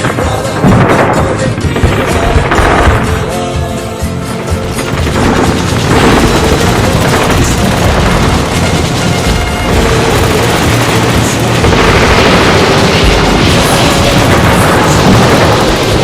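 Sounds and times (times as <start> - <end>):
gunfire bursts: 0.0 - 3.4, 4.4 - 16.0
explosions booming: 0.0 - 3.6, 4.5 - 16.0
instrumental music: 0.0 - 16.0.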